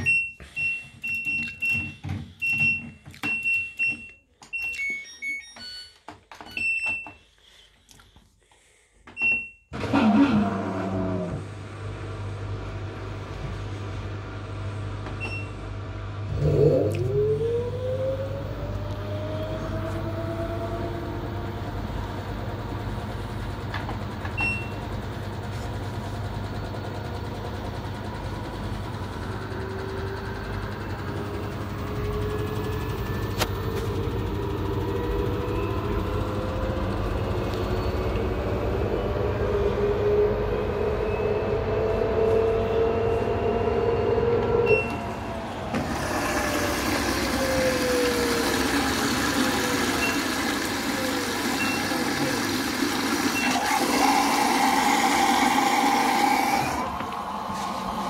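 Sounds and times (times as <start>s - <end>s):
washing machine motor whine: 9.2s - 58.0s.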